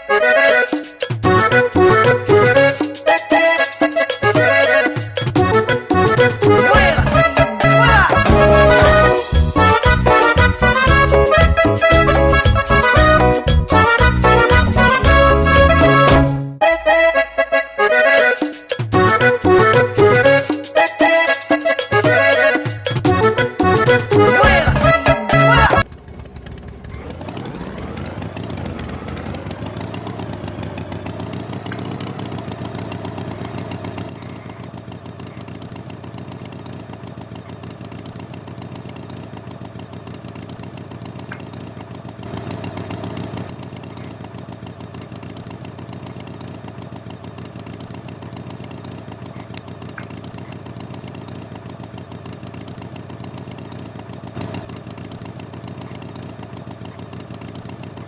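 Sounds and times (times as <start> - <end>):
tractor engine revving and idling: 0.0 - 58.0.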